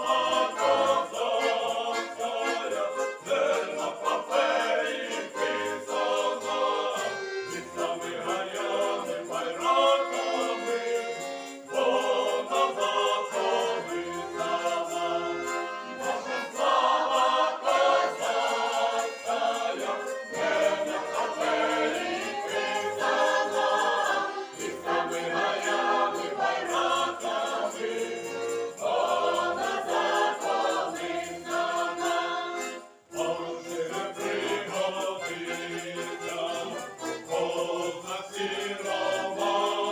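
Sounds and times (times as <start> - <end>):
button accordion: 0.0 - 39.9
folk choir singing: 0.0 - 39.9
violin: 0.0 - 39.9.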